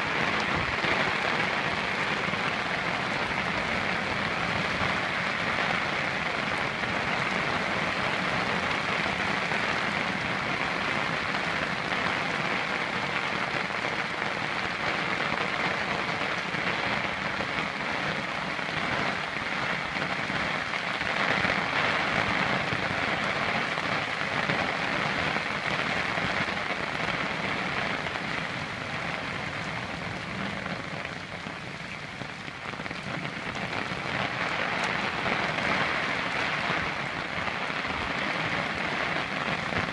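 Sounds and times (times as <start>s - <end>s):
heavy rain falling on trees: 0.0s - 39.9s.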